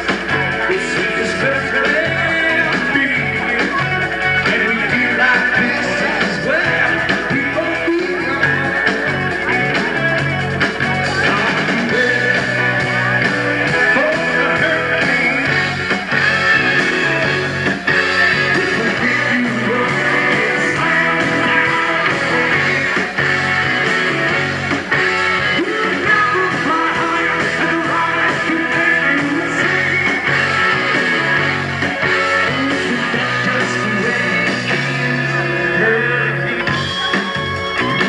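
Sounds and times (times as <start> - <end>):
bass guitar: 0.0 - 38.0
drums: 0.0 - 38.0
electric guitar: 0.0 - 38.0.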